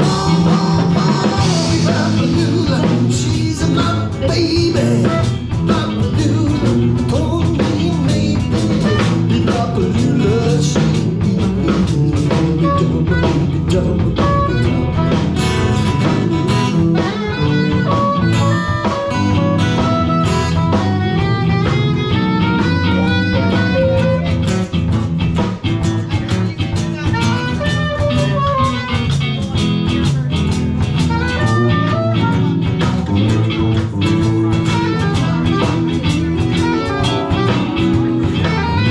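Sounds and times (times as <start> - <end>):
blues-rock band backing with drums: 0.0 - 38.9
lead guitar with bending notes: 0.0 - 38.9.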